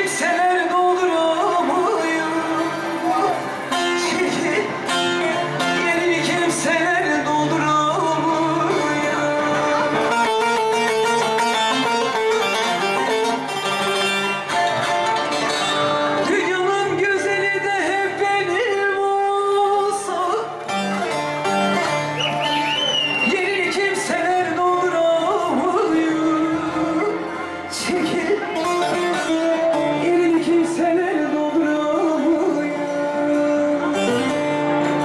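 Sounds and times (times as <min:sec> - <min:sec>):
long-necked lute playing: 0:00.0 - 0:35.0.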